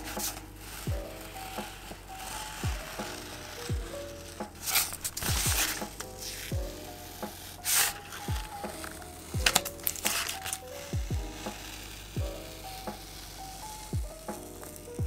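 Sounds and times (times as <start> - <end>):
masking tape peeling off paper: 0.0 - 15.0
soft background music: 0.0 - 15.0.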